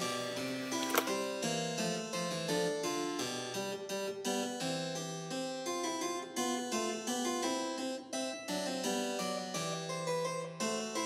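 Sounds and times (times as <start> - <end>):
harpsichord-like keyboard music: 0.0 - 11.0.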